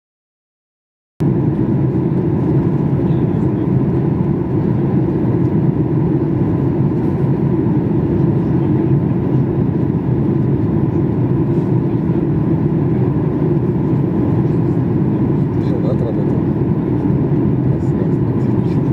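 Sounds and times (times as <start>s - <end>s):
jet engine and airflow rush: 1.2s - 18.9s.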